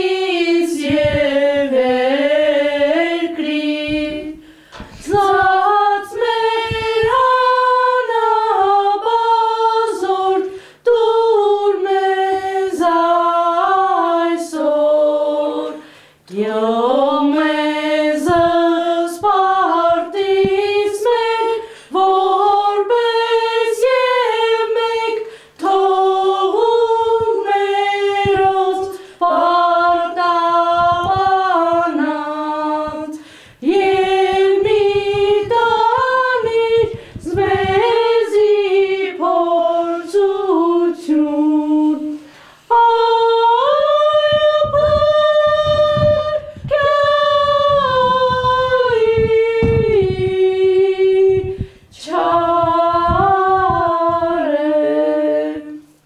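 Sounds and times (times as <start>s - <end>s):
women singing a cappella: 0.0s - 56.0s.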